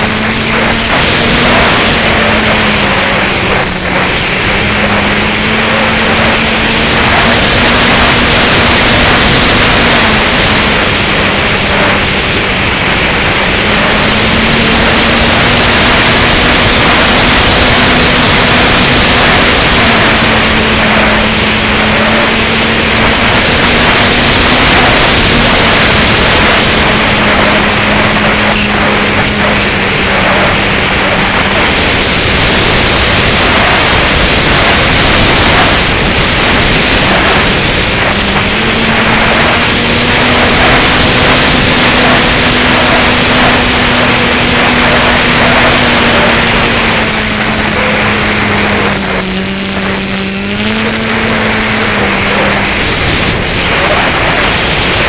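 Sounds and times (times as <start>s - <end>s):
electric motor hum: 0.0s - 55.0s
rushing wind and airflow: 0.0s - 55.0s.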